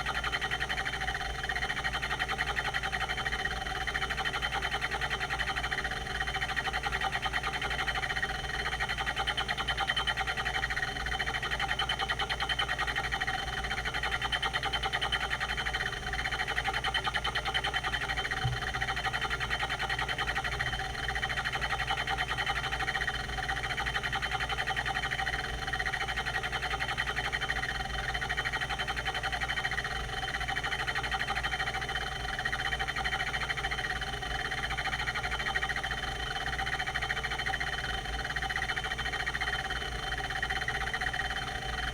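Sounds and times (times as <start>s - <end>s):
hard drive spindle whine: 0.0s - 41.9s
hard drive squeaking chatter: 0.0s - 41.9s.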